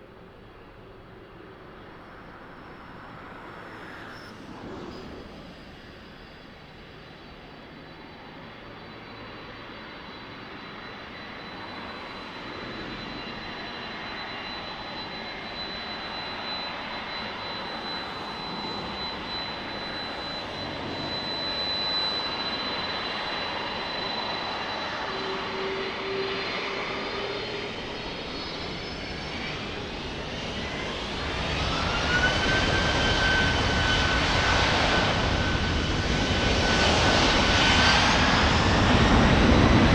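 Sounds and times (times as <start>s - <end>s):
jet airliner engines whining: 0.0s - 39.9s.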